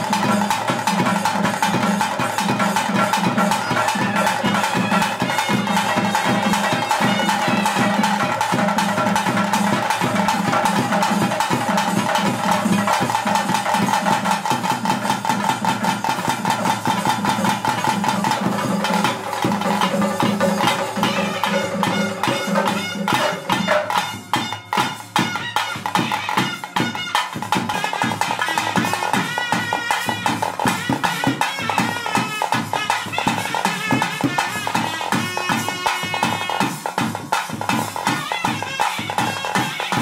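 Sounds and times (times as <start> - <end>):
fast drumming: 0.0 - 40.0.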